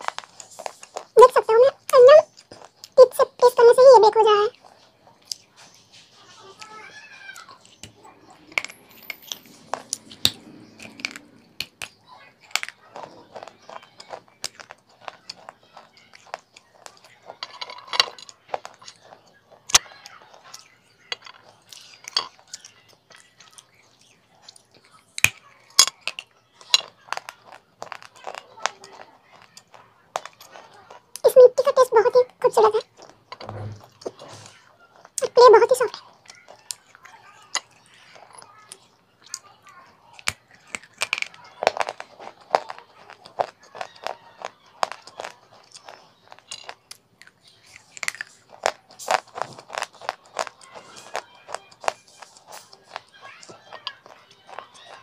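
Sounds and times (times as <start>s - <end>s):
clay being chewed with crunches: 0.0s - 3.6s, 4.5s - 6.7s, 7.4s - 31.7s, 32.7s - 55.0s.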